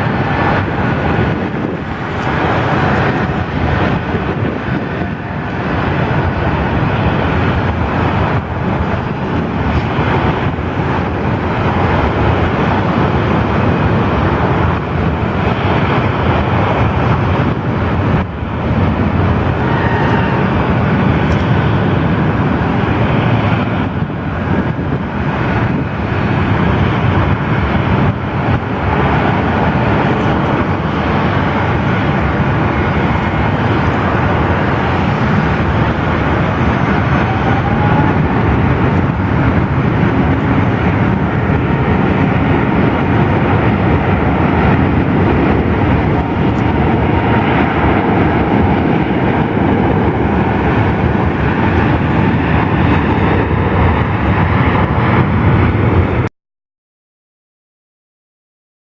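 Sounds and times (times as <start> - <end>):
jet engines running: 0.0 - 56.3.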